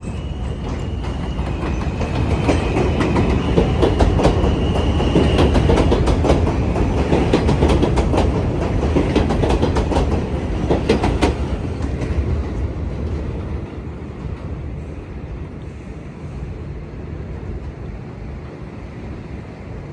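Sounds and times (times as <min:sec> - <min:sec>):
subway train wheels clacking: 0:00.0 - 0:19.9.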